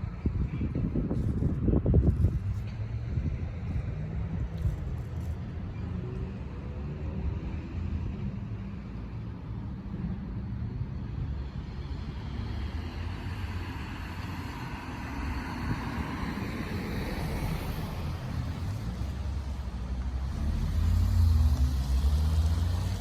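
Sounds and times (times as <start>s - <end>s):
passing vehicle tyre noise: 0.0s - 23.0s
road traffic rumble: 0.0s - 23.0s.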